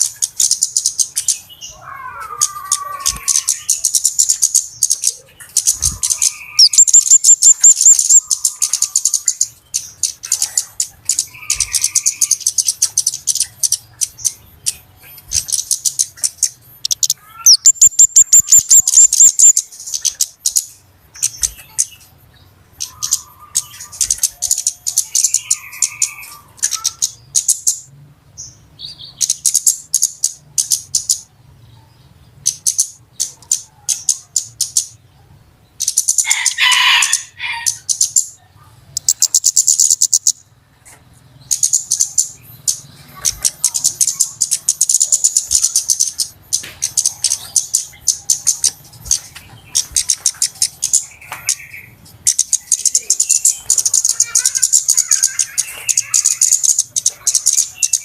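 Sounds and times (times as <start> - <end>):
soft bird chirps: 0.0 - 36.6, 37.8 - 58.0
birds ticking calls and trills: 0.0 - 58.0.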